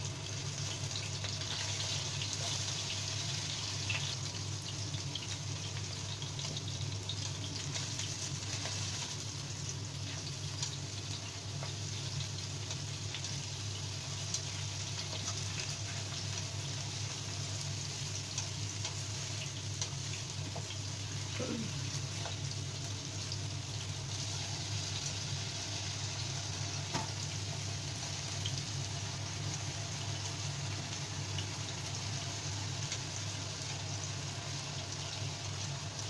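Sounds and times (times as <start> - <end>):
potatoes sizzling in oil: 0.0 - 36.0.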